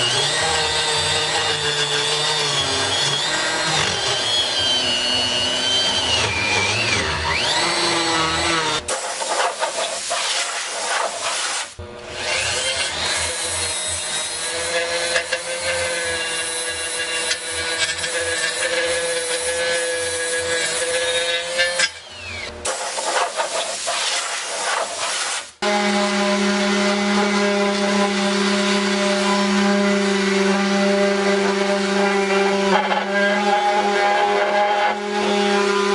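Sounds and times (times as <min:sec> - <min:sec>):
power tool polishing metal: 0:00.0 - 0:35.9.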